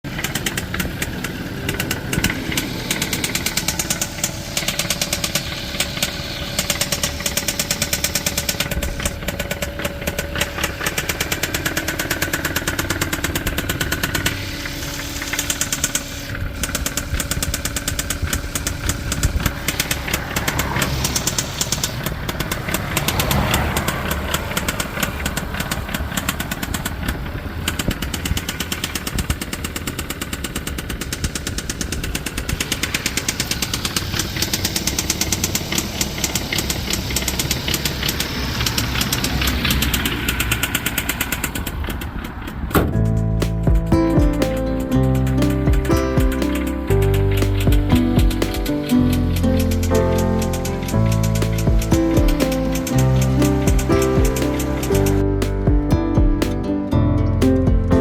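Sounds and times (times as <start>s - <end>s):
car engine idling with knock: 0.0s - 58.0s.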